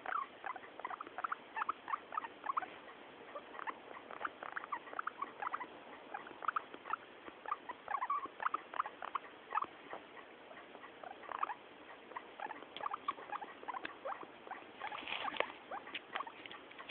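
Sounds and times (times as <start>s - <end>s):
guinea pig high calls: 0.0s - 16.9s.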